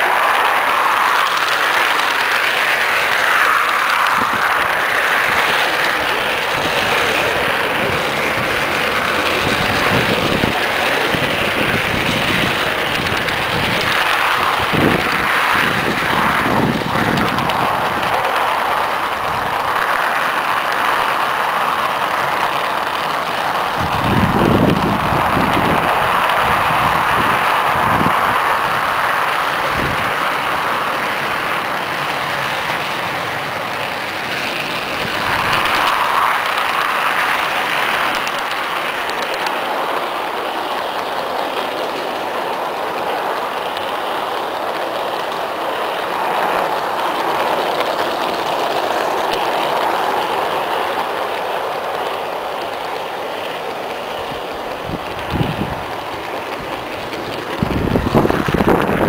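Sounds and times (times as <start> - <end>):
model train wheels rattling on rails: 0.0 - 59.0.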